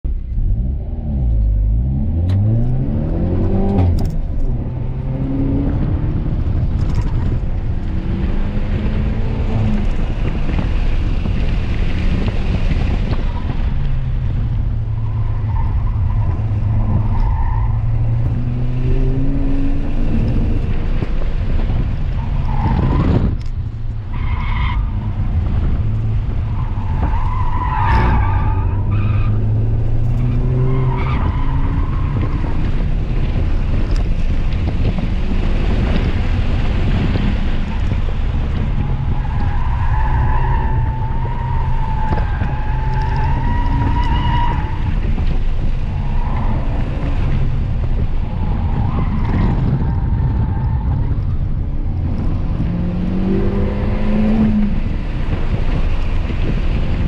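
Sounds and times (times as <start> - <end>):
car engine revving: 0.2 - 57.0.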